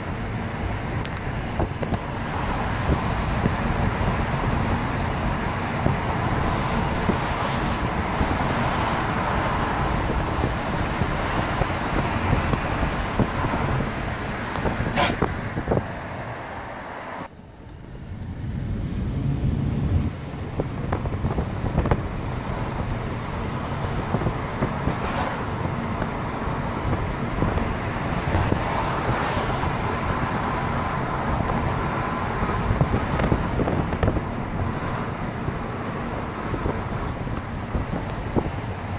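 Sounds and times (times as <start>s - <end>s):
wind on microphone: 0.0s - 16.7s, 18.1s - 38.9s
vehicle road noise: 0.0s - 38.9s.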